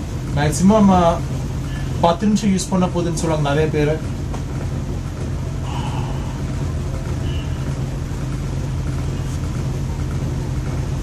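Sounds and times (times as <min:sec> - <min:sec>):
low electric motor hum: 0:00.0 - 0:11.0.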